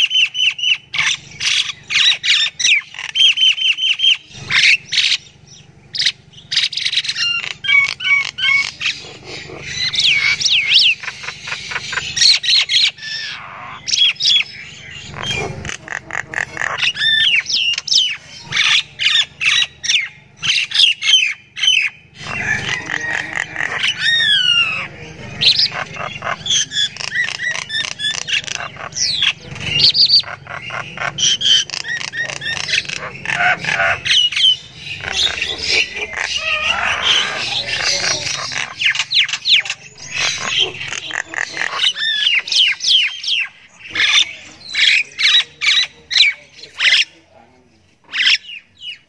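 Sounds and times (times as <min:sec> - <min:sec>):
myna chattering and whistling: 0:00.0 - 0:47.2.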